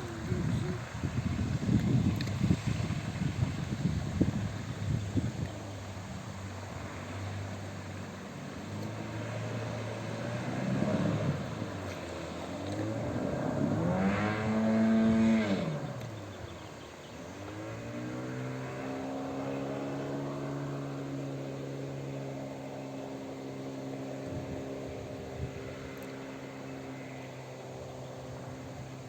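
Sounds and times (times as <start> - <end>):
outboard motor revving: 0.0 - 29.0.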